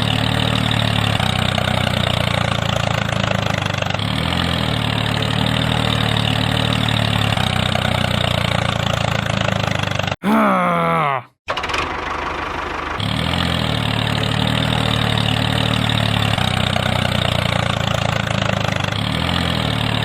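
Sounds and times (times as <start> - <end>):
small engine idling: 0.0 - 10.1, 11.5 - 20.0.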